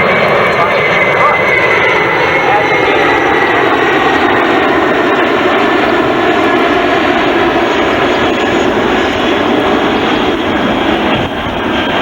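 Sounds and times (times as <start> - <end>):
jet aircraft passing low: 0.0 - 12.0.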